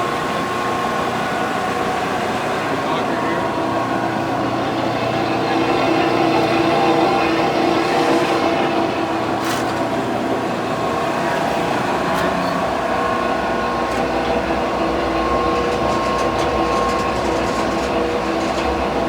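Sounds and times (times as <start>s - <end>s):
mixer grinder motor hum: 3.5s - 19.0s.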